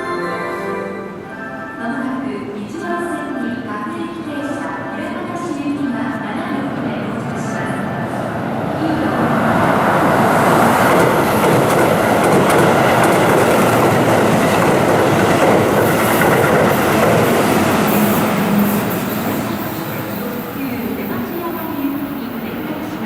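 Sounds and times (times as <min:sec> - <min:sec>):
train wheels rushing on rails: 0:03.6 - 0:23.0.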